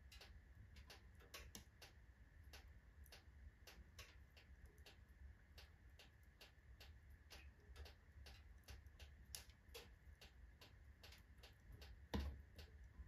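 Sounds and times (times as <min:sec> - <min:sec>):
logs crackling in wood stove: 0:00.0 - 0:13.0
low steady rumble: 0:00.0 - 0:13.0.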